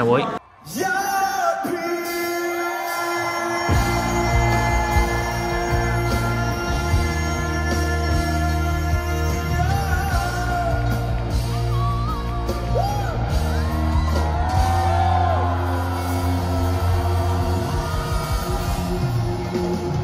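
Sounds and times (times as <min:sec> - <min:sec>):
voices singing and whooping: 0:00.6 - 0:20.0
live rock band: 0:02.0 - 0:20.0.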